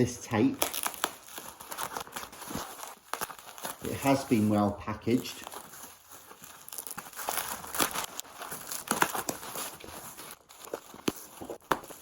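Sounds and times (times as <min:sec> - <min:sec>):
bubble wrap and paper crinkling: 0:00.0 - 0:12.0.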